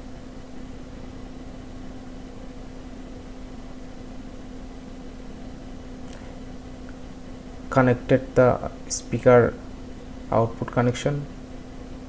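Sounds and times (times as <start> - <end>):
constant low hum: 0.0 - 12.0
room tone hiss: 0.0 - 12.0.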